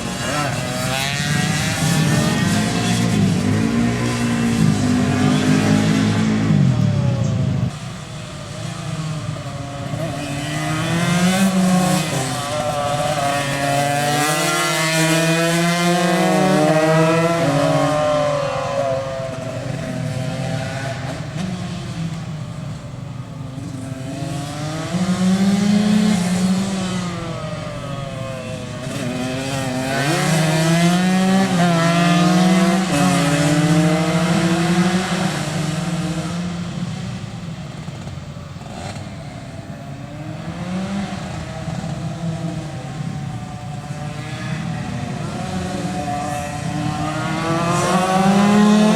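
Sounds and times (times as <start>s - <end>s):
racing motorcycle engines at full throttle: 0.0s - 48.9s.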